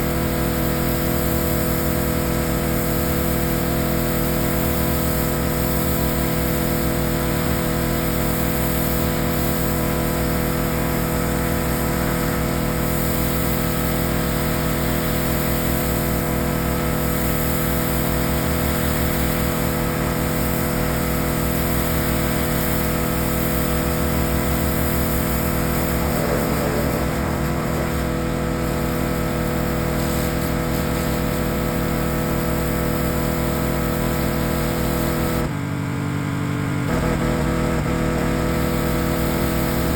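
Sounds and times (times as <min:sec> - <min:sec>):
hiss of spray: 0:00.0 - 0:35.5, 0:38.2 - 0:39.9
pressure washer engine running: 0:00.0 - 0:39.9.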